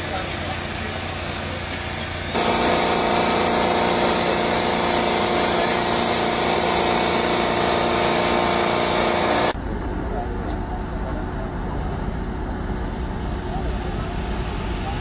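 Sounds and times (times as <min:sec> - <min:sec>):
hydraulic pump engine humming: 0:00.0 - 0:15.0.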